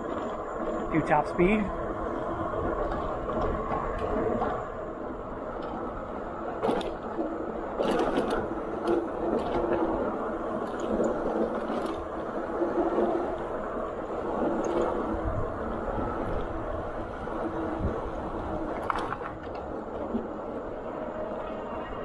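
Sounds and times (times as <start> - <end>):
bike clicks and rattles: 0.0 - 21.5
tyre and wind noise: 0.0 - 22.0.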